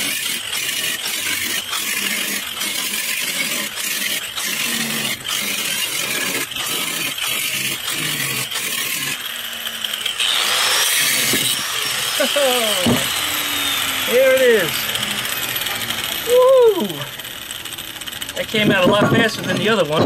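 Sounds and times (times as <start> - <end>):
angle grinder cutting iron: 0.0 - 20.0.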